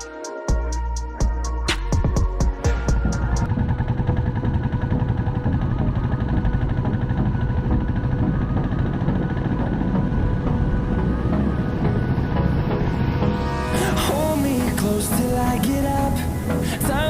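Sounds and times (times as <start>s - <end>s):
motorcycle engine running: 2.0s - 17.0s.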